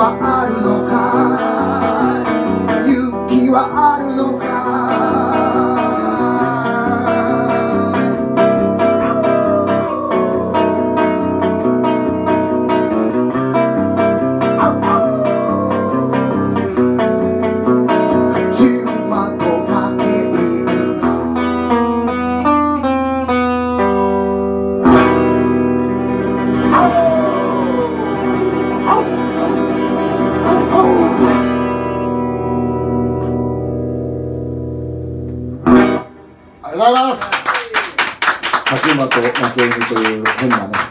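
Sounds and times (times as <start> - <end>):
electric guitar playing: 0.0 - 37.3.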